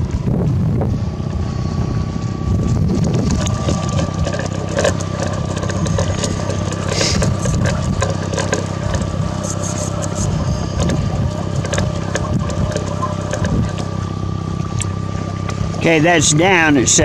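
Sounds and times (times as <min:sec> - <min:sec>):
electric motor whine: 0:00.0 - 0:17.0
wind and boat rumble: 0:00.0 - 0:17.0.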